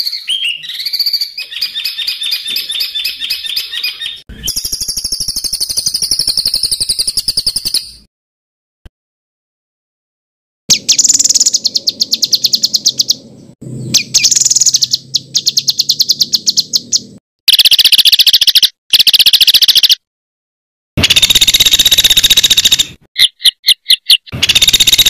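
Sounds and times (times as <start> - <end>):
songbird chattering trills: 0.0 - 7.9, 10.7 - 20.0, 21.0 - 25.0.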